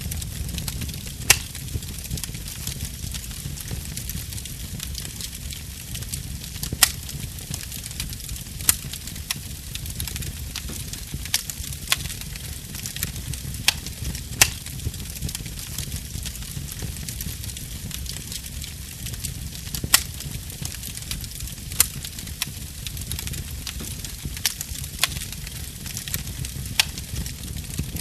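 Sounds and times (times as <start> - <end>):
burning wood popping: 0.0 - 28.0
fire crackling: 0.0 - 28.0
fire flames rumbling: 0.0 - 28.0.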